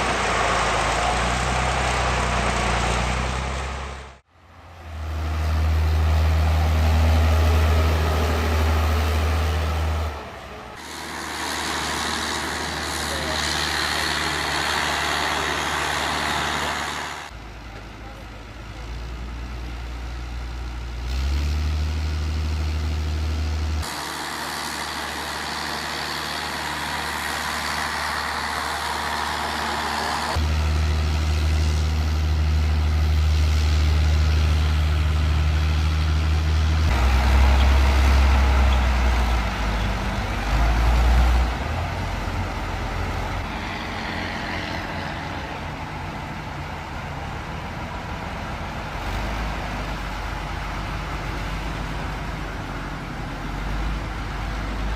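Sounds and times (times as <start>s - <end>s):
heavy truck engines under load: 0.0s - 54.9s.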